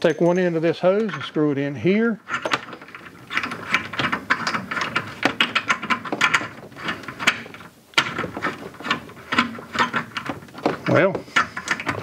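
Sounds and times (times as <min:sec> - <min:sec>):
hose fitting clicking and scraping: 0:02.2 - 0:12.0.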